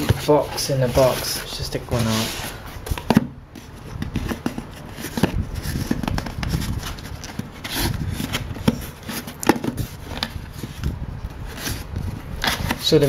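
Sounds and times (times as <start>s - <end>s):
cardboard rubbing and scraping: 0.0s - 13.0s.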